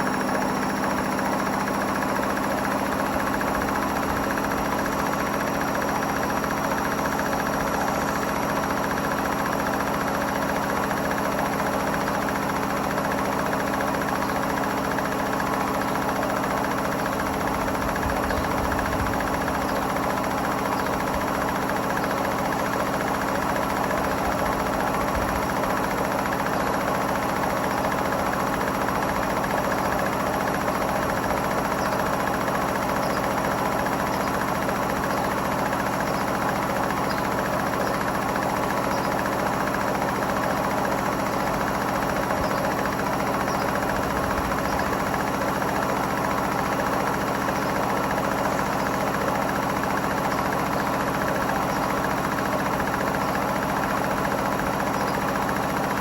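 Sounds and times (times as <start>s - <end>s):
washing machine motor whine: 0.0s - 56.0s.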